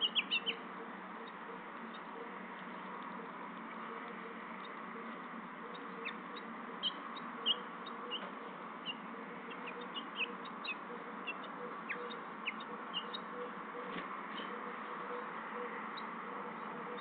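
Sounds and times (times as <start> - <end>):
finches chirping: 0.0 - 17.0
steady background hiss: 0.0 - 17.0.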